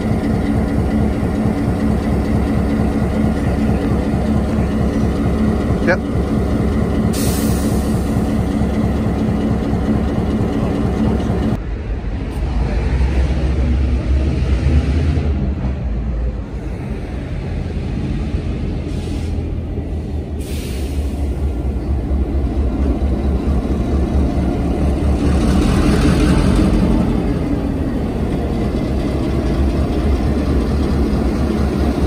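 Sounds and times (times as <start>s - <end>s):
deep diesel locomotive rumble: 0.0s - 32.0s
diesel locomotive engine drone: 0.0s - 32.0s.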